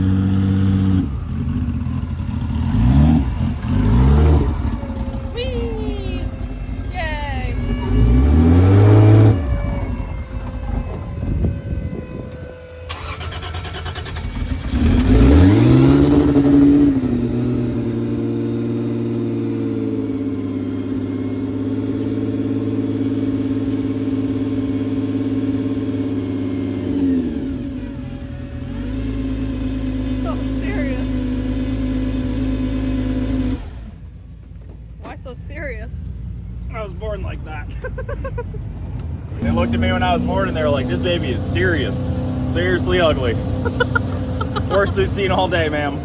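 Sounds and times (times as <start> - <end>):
car engine revving: 0.0 - 34.3, 36.2 - 46.0.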